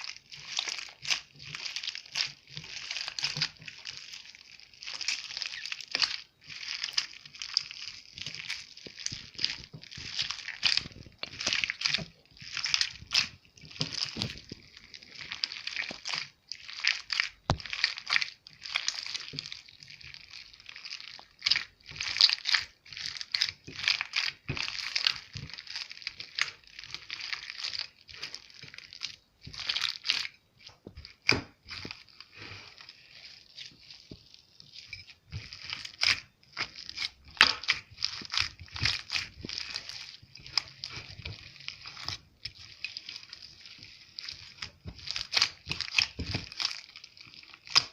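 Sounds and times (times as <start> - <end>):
slime squelching and crackling: 0.0 - 47.9.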